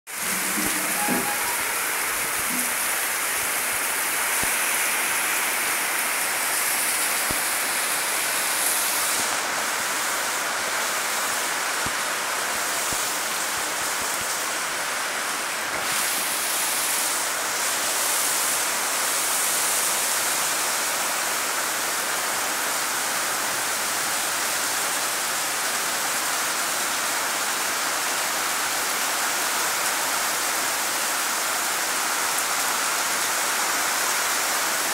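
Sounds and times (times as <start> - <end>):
rain falling steadily: 0.1 - 34.9.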